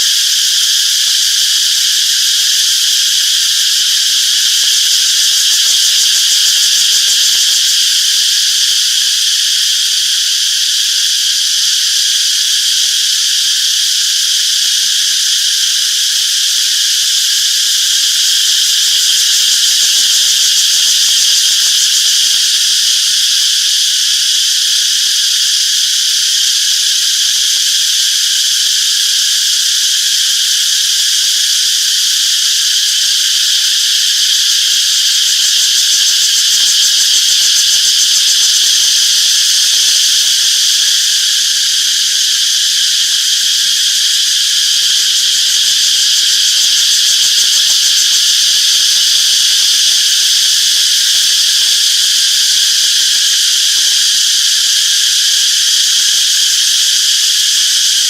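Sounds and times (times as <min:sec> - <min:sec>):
cicadas singing: 0:00.0 - 0:58.0.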